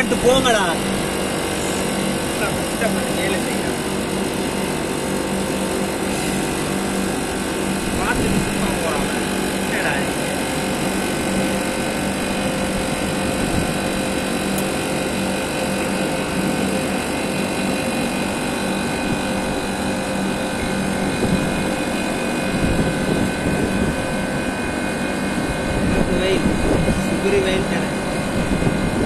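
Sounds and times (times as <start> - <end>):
air conditioner units whirring: 0.0 - 29.0.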